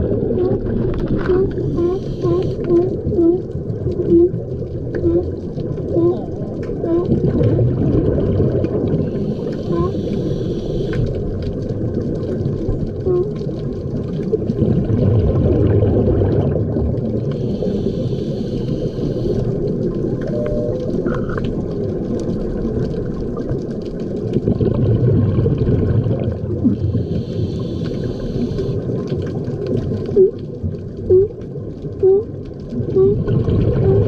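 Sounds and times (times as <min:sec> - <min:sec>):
bubbles gurgling underwater: 0:00.0 - 0:34.0.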